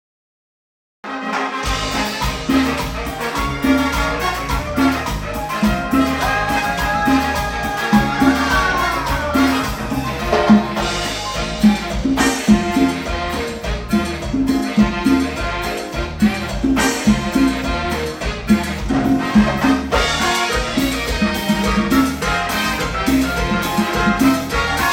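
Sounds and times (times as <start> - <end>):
salsa orchestra playing: 1.0 - 24.9
steady percussion: 1.6 - 24.9
strong bass line: 1.6 - 24.9.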